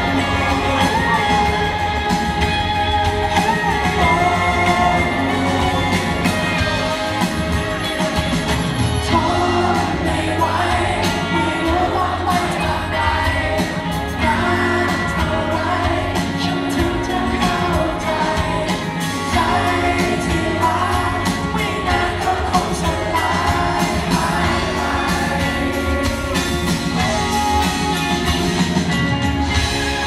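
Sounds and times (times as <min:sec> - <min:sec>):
lead singer vocals: 0:00.0 - 0:30.0
live band playing: 0:00.0 - 0:30.0.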